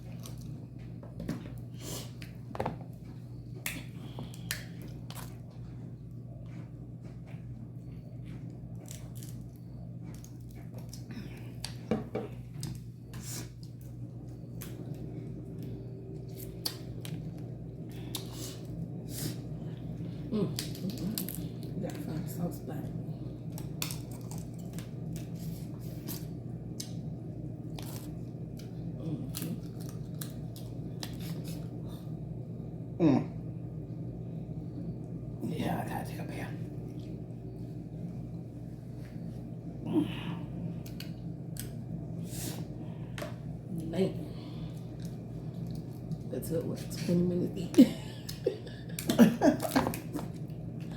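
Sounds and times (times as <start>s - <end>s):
low hum: 0.0s - 50.9s.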